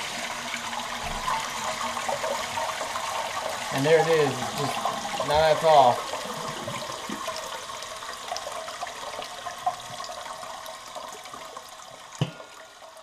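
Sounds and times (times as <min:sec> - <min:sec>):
water hissing into toilet tank: 0:00.0 - 0:13.0.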